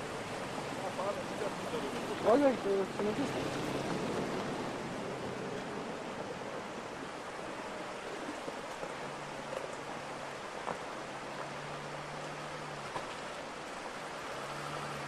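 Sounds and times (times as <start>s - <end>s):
faint low engine hum: 0.0s - 15.0s
river rushing over stones: 0.0s - 15.0s.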